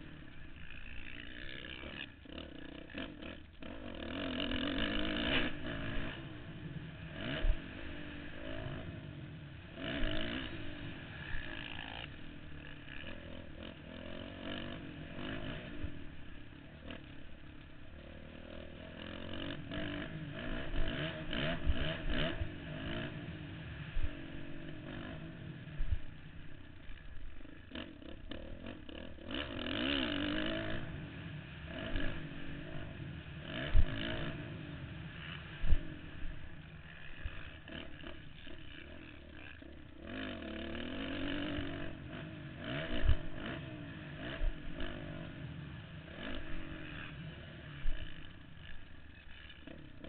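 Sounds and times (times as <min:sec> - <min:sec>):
motocross bike engine revving: 0:00.0 - 0:50.0.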